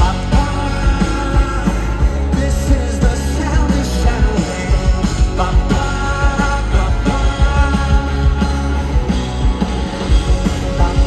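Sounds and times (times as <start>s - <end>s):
bass guitar: 0.0s - 11.0s
electric guitar chords: 0.0s - 11.0s
steady drum beat: 0.0s - 11.0s.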